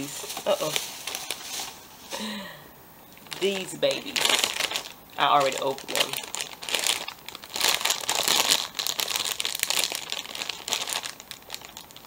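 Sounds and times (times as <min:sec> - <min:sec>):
plastic snack bag crinkling: 0:00.0 - 0:02.3, 0:03.2 - 0:12.0.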